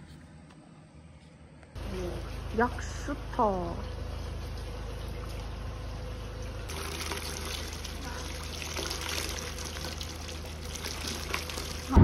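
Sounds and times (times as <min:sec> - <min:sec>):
water trickling into stone basin: 0:01.9 - 0:12.0.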